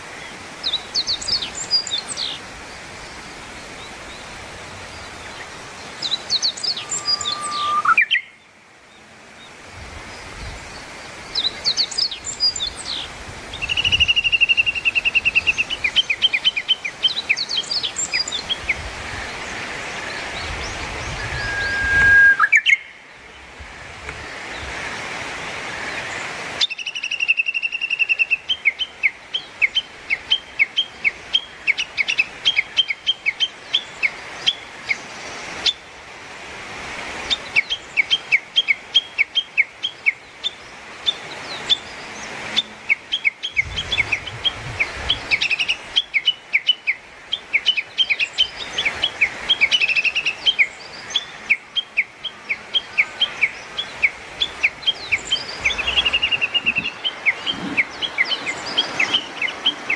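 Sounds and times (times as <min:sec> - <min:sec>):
songbird chirping: 0:00.0 - 0:35.9, 0:37.1 - 0:59.9.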